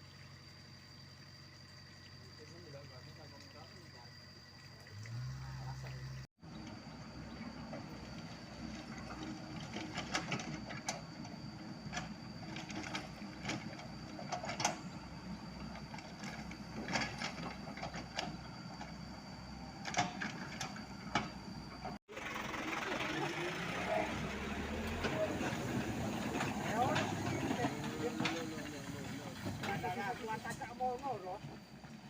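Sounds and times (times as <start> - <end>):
diesel engine running: 4.9 - 32.0.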